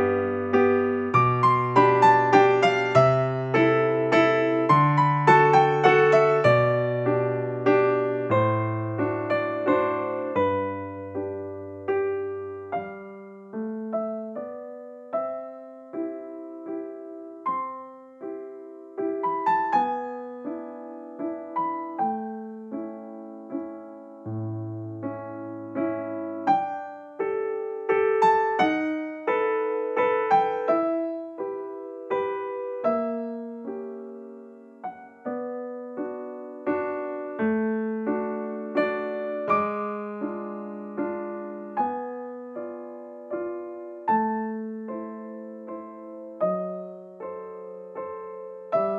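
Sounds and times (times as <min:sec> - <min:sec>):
gentle piano music: 0:00.0 - 0:48.9.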